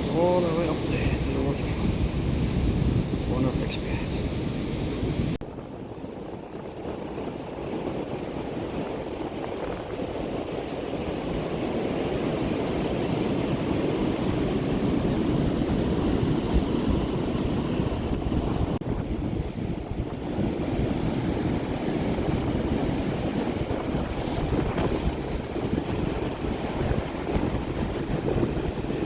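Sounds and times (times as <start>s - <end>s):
ocean surf breaking: 0.0s - 5.4s, 6.8s - 29.0s
wind buffeting microphone: 0.0s - 29.0s.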